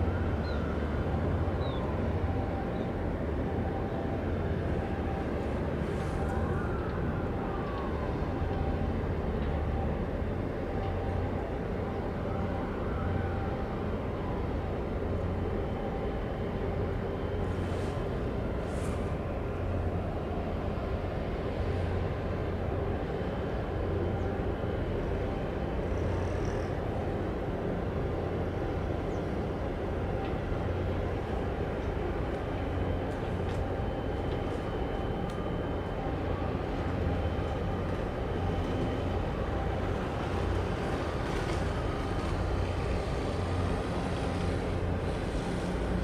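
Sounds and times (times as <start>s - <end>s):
ship engine rumble: 0.0s - 46.0s.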